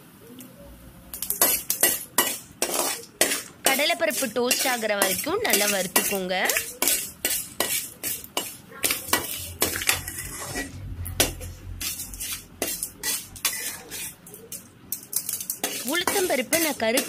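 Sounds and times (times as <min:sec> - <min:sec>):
metal spoon scraping a pan: 0:01.2 - 0:17.0.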